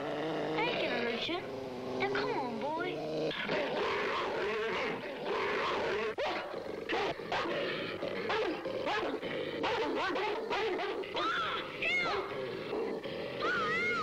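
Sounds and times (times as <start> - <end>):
dog snarling and barking: 0.0 - 14.0.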